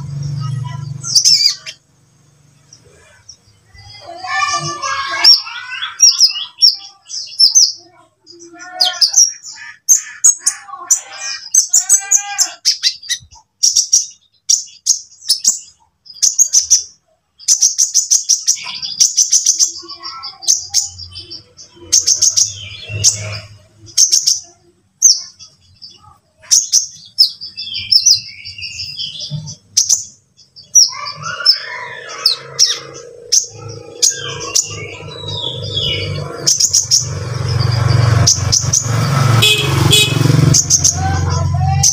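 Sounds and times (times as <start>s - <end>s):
bird warbling: 0.0s - 1.9s, 2.6s - 41.9s
bird chirping rapidly: 0.0s - 41.9s.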